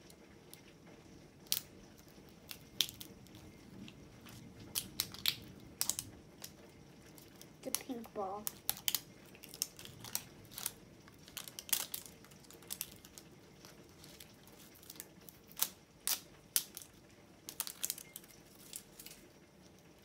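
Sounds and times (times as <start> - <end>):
plastic wrapping crinkling and tearing: 1.4 - 19.3.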